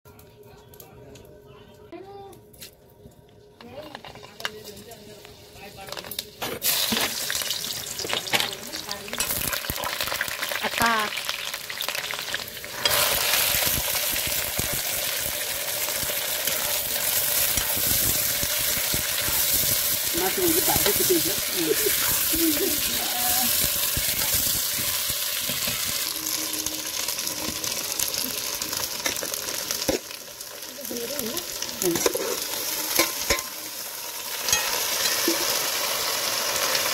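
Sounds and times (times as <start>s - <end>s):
vegetables sizzling in oil: 4.2s - 36.9s.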